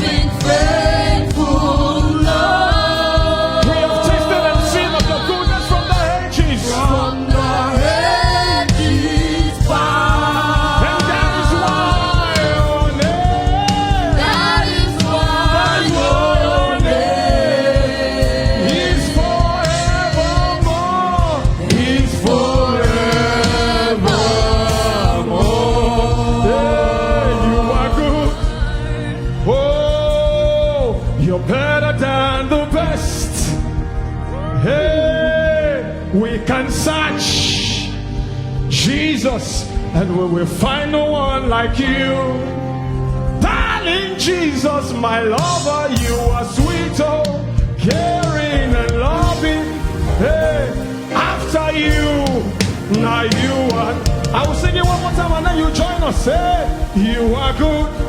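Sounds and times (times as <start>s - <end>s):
band playing steady beat: 0.0s - 37.2s, 45.4s - 58.0s
gospel choir singing: 0.0s - 58.0s.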